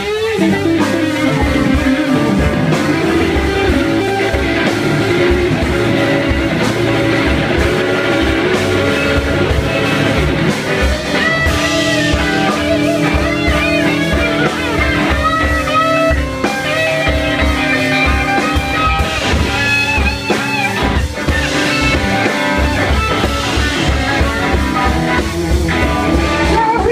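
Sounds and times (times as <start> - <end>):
electric guitar lead with bends: 0.0 - 26.9
live blues rock band: 0.0 - 26.9.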